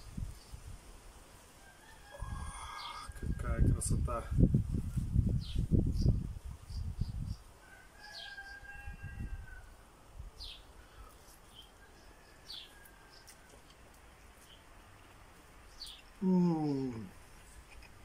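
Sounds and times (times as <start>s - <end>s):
small songbirds chirping: 0.0s - 0.8s, 2.2s - 3.5s, 4.9s - 18.0s.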